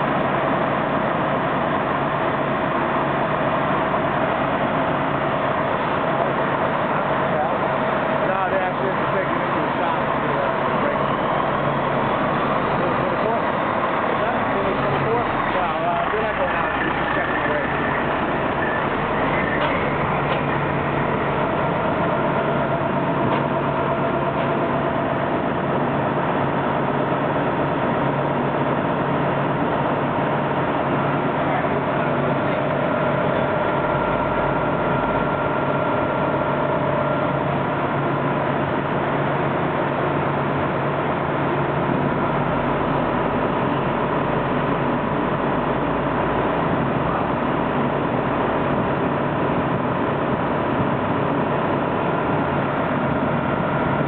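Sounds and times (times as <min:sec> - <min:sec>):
fire truck diesel engine running: 0:00.0 - 0:54.0.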